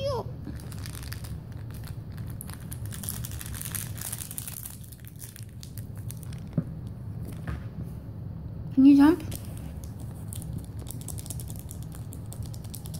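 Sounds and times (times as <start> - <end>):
kitten scratching and crinkling toy: 0.4 - 7.4, 9.2 - 12.9.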